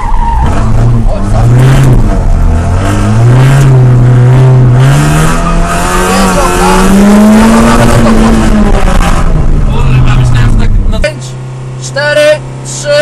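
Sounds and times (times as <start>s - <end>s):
car engine pulling hard: 0.0s - 13.0s.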